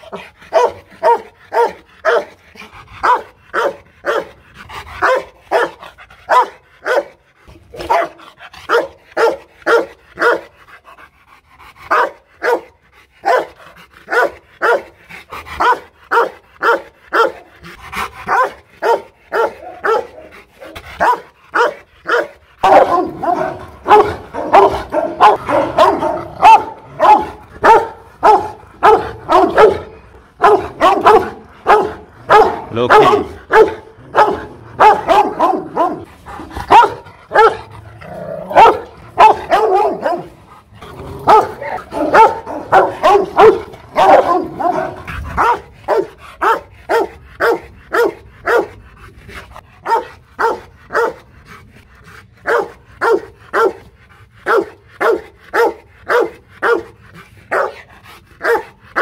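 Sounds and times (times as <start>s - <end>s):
dog barking: 0.0s - 2.4s, 3.0s - 4.4s, 5.0s - 10.5s, 11.9s - 14.9s, 15.6s - 17.4s, 18.3s - 37.7s, 38.5s - 40.4s, 41.2s - 48.8s, 49.8s - 51.2s, 52.4s - 53.8s, 54.4s - 57.8s, 58.4s - 59.0s.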